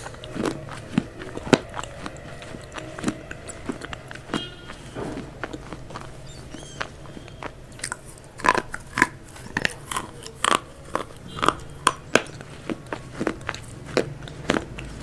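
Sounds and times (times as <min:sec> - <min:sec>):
crispy chicken crunching: 0:00.0 - 0:15.0.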